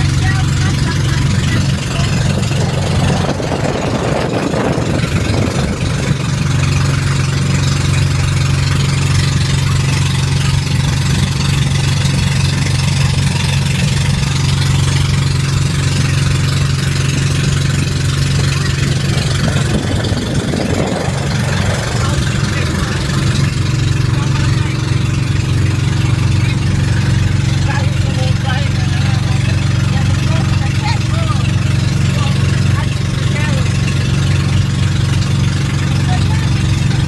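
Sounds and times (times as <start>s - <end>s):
boat engine drone: 0.0s - 37.0s.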